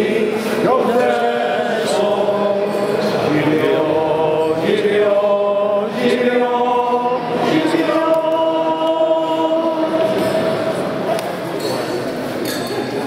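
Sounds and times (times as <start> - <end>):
crowd singing in chorus: 0.0 - 11.1.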